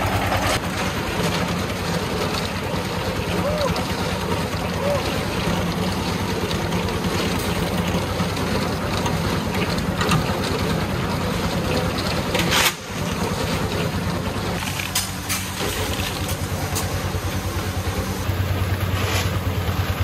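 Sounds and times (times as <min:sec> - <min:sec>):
concrete mixer running: 0:00.0 - 0:20.0.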